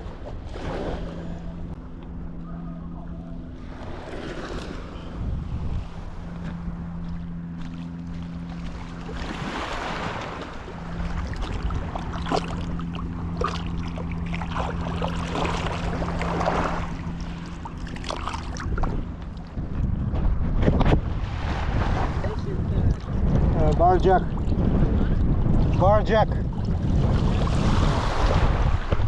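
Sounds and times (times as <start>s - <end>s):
steady low hum: 0.0s - 29.0s
wind buffeting microphone: 0.0s - 29.0s.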